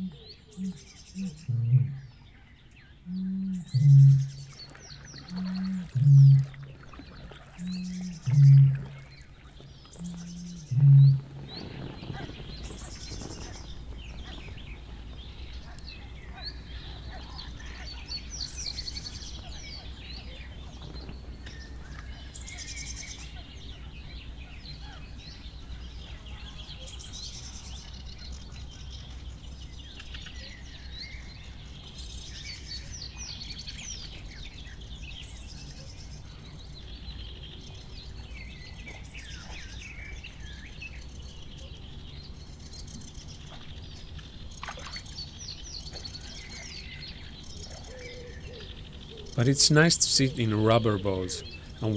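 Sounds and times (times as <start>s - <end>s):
low outdoor rumble: 0.0s - 51.9s
songbirds chirping: 0.0s - 51.9s.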